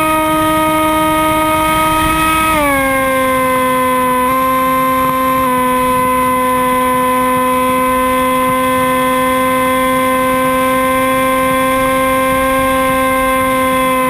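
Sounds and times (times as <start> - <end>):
electric motor and propeller whine: 0.0 - 14.0
wind buffeting: 0.0 - 14.0.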